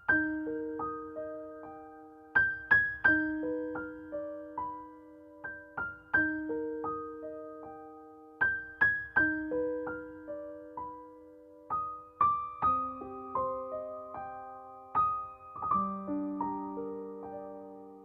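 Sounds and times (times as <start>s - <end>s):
soft solo piano: 0.0s - 18.0s.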